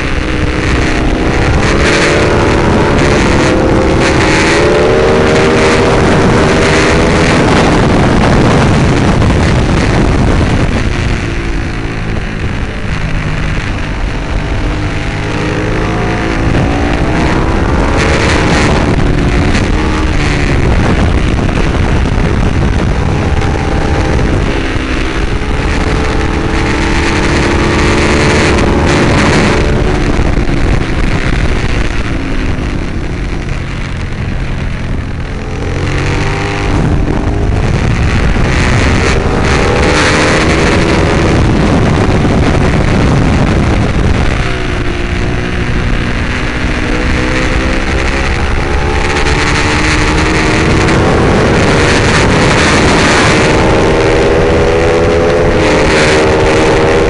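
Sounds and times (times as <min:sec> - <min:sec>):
motorcycle engine accelerating: 0:00.0 - 0:57.0
wind rush: 0:00.0 - 0:57.0.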